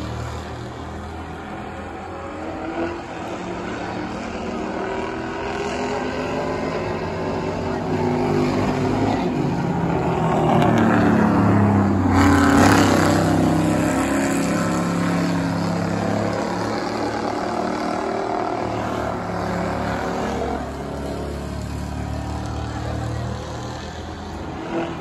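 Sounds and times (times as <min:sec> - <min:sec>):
stock car engines racing past: 0:00.0 - 0:25.0.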